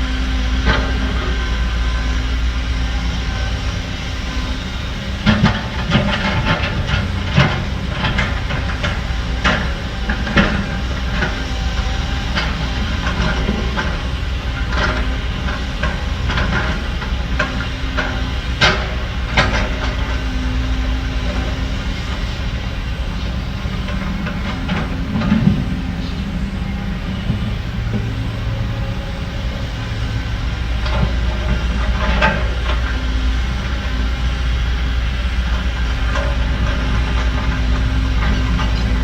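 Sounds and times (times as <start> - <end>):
diesel machinery rumbling: 0.0 - 39.0.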